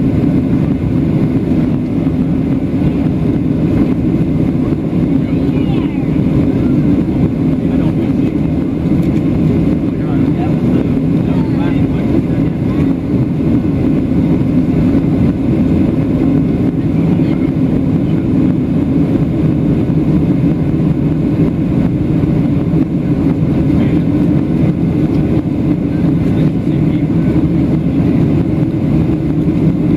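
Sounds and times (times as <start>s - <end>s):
airplane cabin engine drone: 0.0s - 29.9s.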